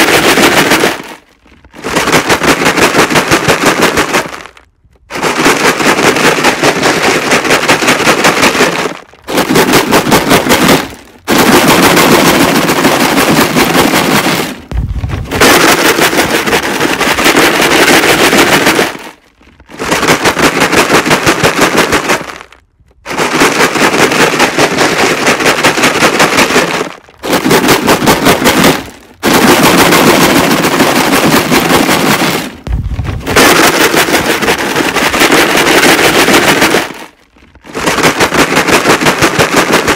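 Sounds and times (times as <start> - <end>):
rocks rattling in a shaken jug: 0.0 - 39.9.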